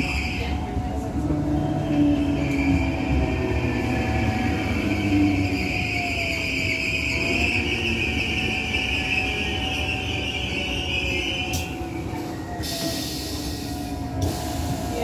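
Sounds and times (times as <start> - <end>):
train running noise: 0.0 - 15.0
high wheel squeal: 1.6 - 15.0.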